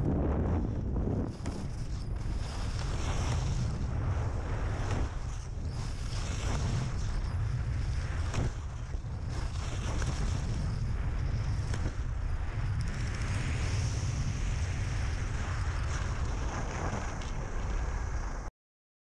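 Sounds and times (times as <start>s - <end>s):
skis carving across snow: 0.0s - 18.5s
wind rushing over microphone: 0.0s - 18.5s.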